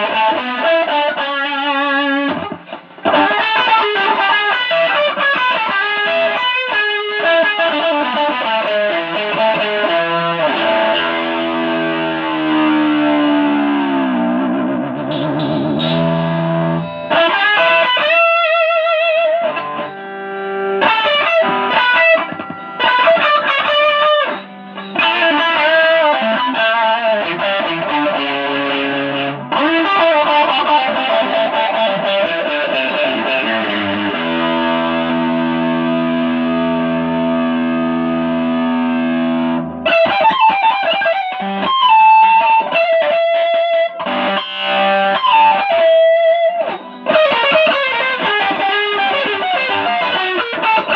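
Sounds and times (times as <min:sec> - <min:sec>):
electric guitar playing: 0:00.0 - 0:50.9.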